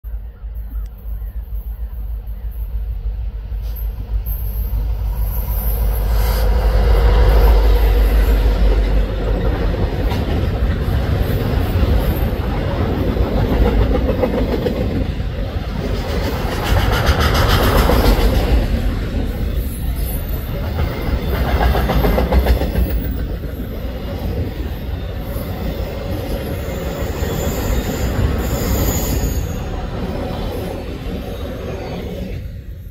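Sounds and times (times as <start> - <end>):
diesel locomotive rumble: 0.1 - 32.8
train wheel squeals: 0.4 - 10.5, 15.6 - 32.9.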